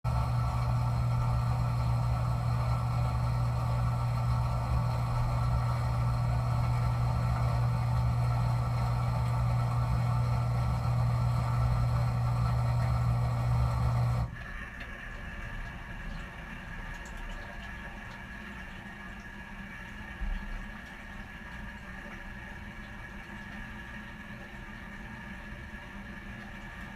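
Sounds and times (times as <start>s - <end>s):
dishwasher motor hum: 0.0s - 26.9s.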